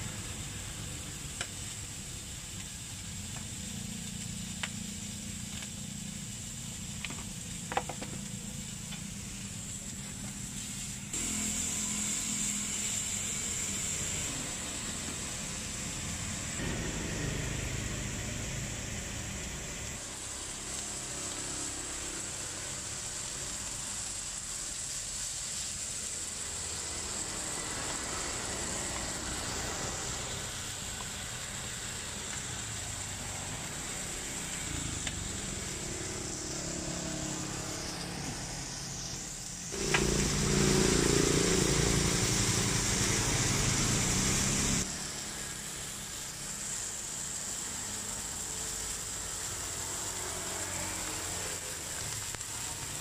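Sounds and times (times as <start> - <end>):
meat sizzling on a griddle: 0.0 - 53.0
street traffic: 0.0 - 53.0.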